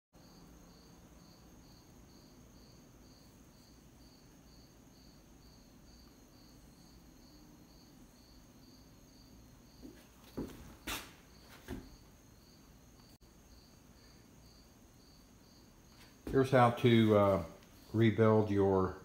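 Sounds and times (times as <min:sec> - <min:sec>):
cricket chirping: 0:00.2 - 0:19.0.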